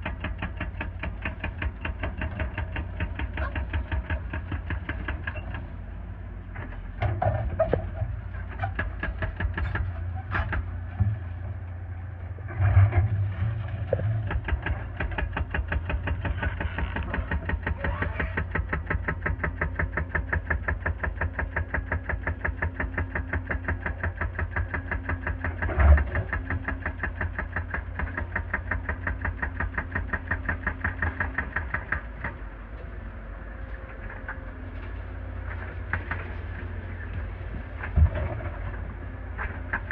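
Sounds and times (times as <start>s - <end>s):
excavator knocks: 0.0s - 5.7s, 6.6s - 11.6s, 13.4s - 32.4s, 35.5s - 39.9s
diesel engine running: 0.0s - 39.9s.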